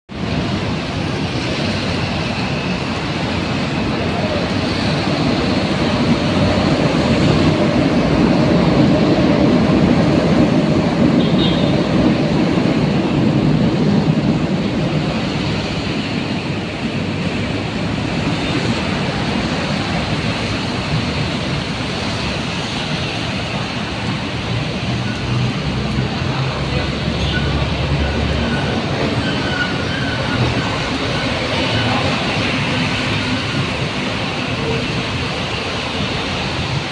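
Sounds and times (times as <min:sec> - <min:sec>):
traffic on wet road: 0:00.1 - 0:36.9.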